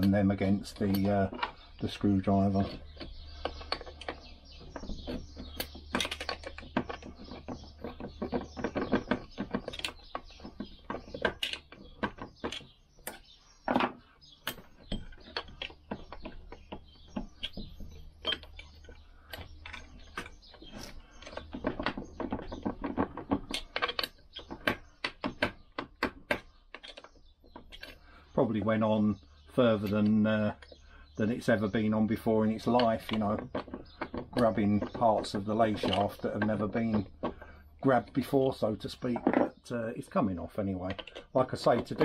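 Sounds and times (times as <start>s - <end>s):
tools clicking and scraping metal: 0.0s - 28.0s, 29.7s - 39.6s, 40.8s - 42.0s.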